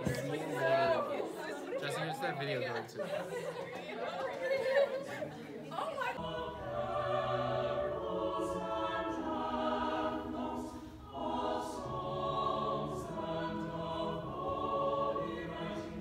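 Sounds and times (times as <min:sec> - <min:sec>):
mixed choir singing: 0:00.0 - 0:01.7, 0:04.4 - 0:16.0.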